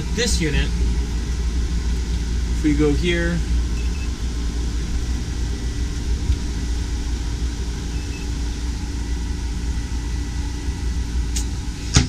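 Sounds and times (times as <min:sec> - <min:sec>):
air conditioner rumble and hum: 0:00.0 - 0:12.0.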